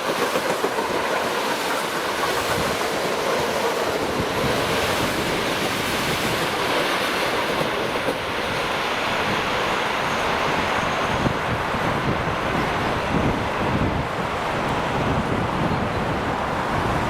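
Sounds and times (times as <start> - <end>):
electric train running past: 0.0 - 17.0.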